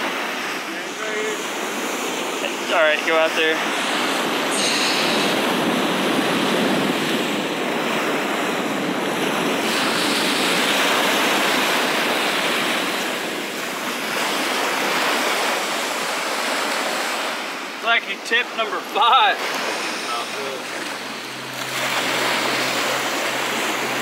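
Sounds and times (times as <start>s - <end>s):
small waves rushing: 0.0s - 24.0s.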